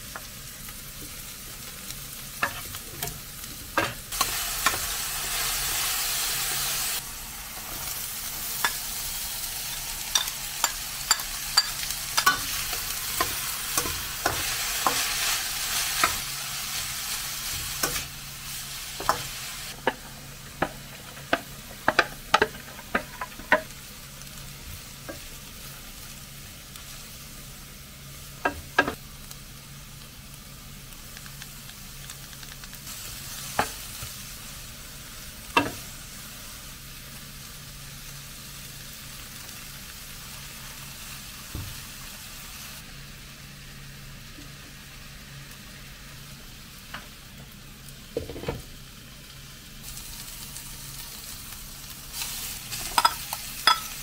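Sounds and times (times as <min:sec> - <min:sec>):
vegetables sizzling in a frying pan: 0:00.0 - 0:54.0.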